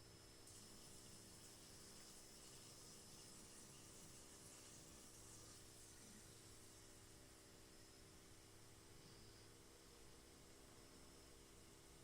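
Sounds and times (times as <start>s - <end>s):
electrical hum: 0.0s - 12.0s
faint steady hiss: 0.0s - 12.0s.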